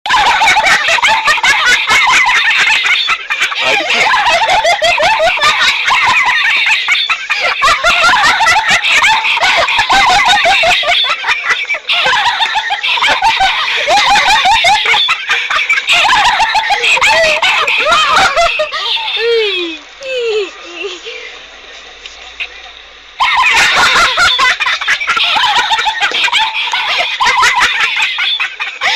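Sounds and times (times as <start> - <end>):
high-pitched giggling: 0.1 - 21.3, 23.2 - 28.9.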